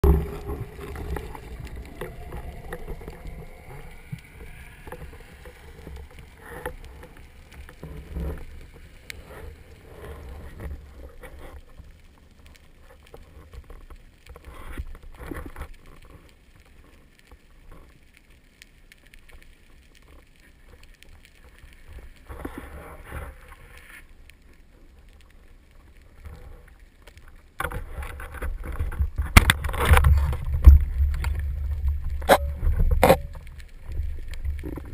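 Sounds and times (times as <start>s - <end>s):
small underwater clicks and knocks: 0.0s - 34.9s
underwater low rumble: 0.0s - 34.9s.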